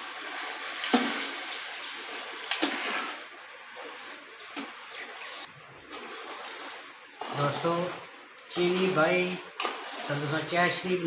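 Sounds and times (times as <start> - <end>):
syrup bubbling and hissing in pot: 0.0 - 10.6.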